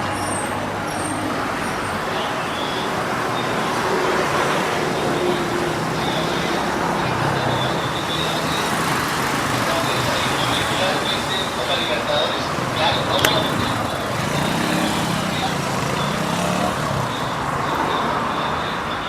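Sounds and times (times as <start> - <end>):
passing cars and buses humming: 0.0 - 19.0
road traffic noise: 0.0 - 19.0.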